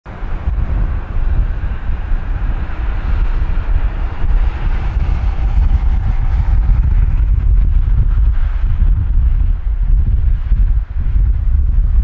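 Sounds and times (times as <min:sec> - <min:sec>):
distant jet engines: 0:00.1 - 0:12.0
wind buffeting microphone: 0:00.1 - 0:12.0.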